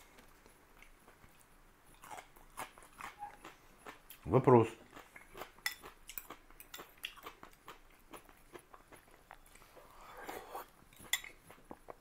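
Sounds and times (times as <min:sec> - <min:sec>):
person chewing: 0:00.0 - 0:04.2, 0:04.8 - 0:12.0.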